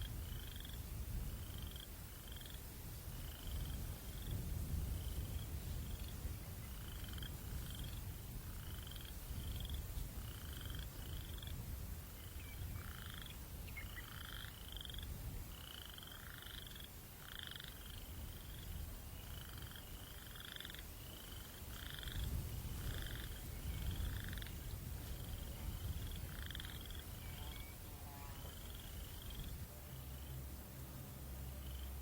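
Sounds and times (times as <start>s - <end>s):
low breeze rumble: 0.0s - 32.0s.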